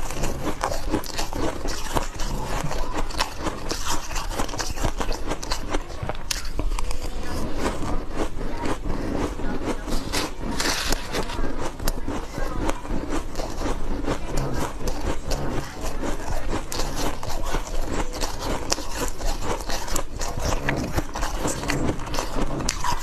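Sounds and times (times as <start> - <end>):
chewing crunchy ice: 0.0 - 23.0.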